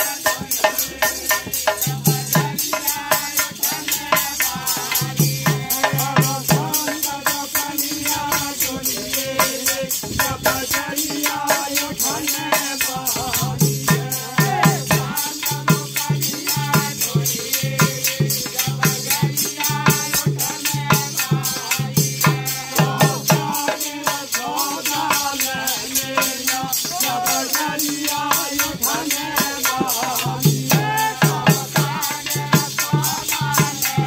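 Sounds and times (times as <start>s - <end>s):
jingling metal percussion: 0.0s - 34.0s
men singing devotional song: 0.0s - 34.0s.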